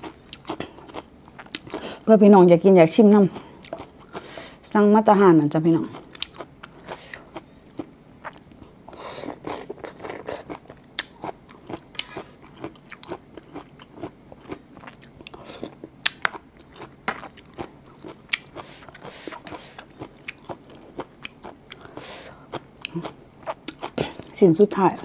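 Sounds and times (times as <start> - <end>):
soft chewing: 0.0 - 2.1, 3.2 - 4.6, 5.8 - 24.3.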